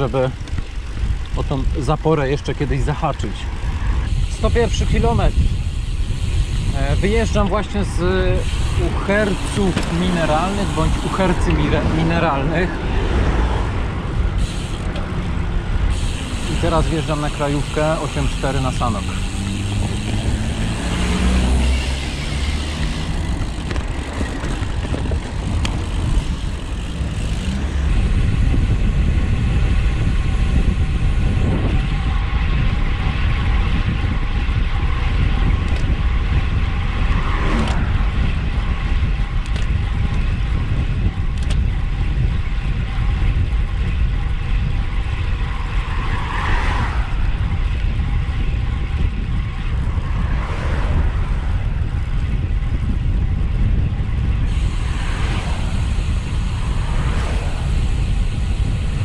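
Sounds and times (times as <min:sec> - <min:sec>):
vehicles passing on road: 0:00.0 - 0:59.0
wind rumble on microphone: 0:00.0 - 0:59.0.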